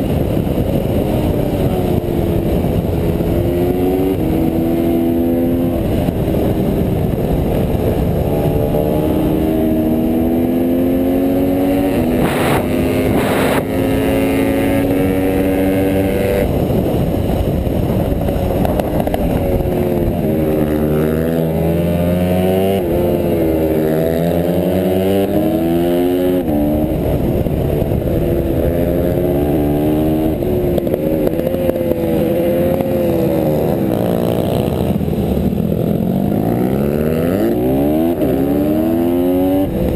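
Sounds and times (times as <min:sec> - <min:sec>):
motorbike engine racing: 0:00.0 - 0:39.9.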